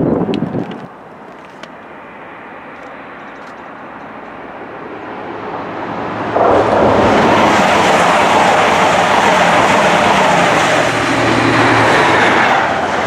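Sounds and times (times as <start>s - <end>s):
train passing with loud roar: 0.3s - 13.0s.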